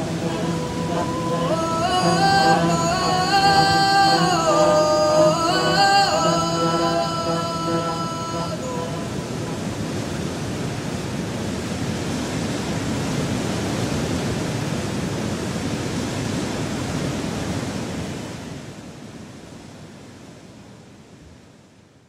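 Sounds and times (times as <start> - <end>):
river rapids rushing: 0.0 - 18.8.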